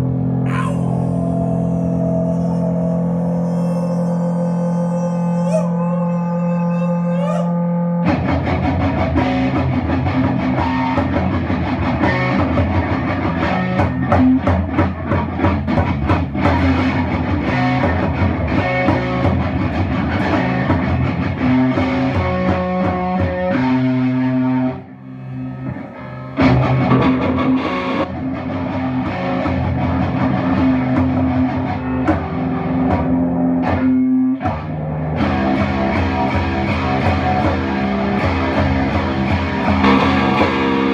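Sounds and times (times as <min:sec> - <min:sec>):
instrumental rock music: 0:08.0 - 0:40.9.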